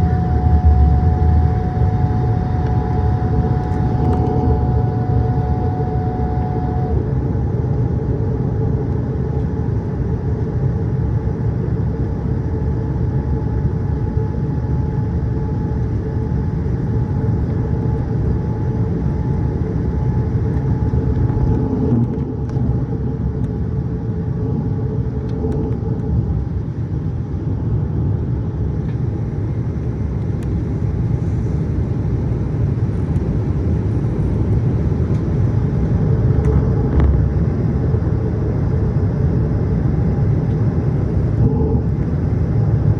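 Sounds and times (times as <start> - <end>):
airliner engine and airflow rumble: 0.0 - 42.9
faint hum tone: 0.0 - 42.9.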